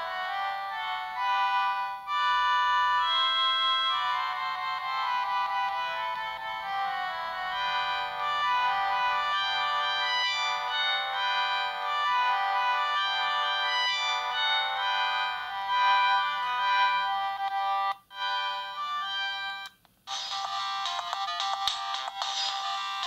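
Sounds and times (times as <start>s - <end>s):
polyphonic phone ringtone: 0.0s - 23.0s.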